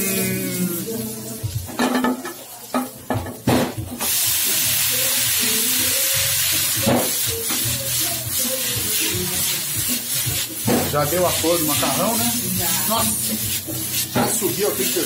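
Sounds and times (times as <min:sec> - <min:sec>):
spaghetti sizzling in hot oil: 0:00.0 - 0:15.0.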